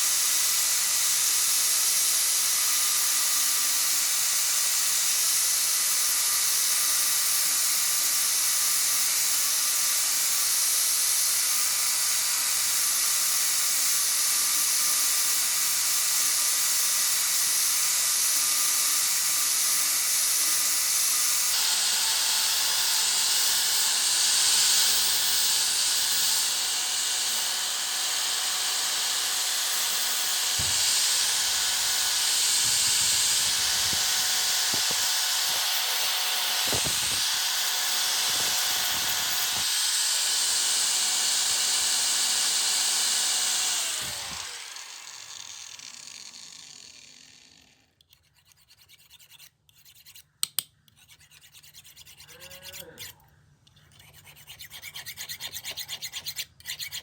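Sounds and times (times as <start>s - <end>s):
power tool hissing and humming: 0.0s - 47.8s.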